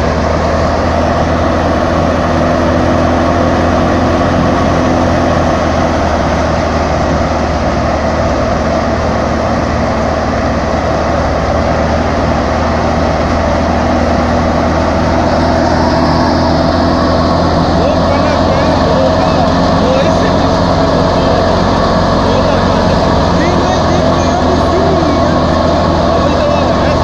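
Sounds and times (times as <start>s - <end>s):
thresher running: 0.0s - 27.0s
tractor engine: 0.0s - 27.0s.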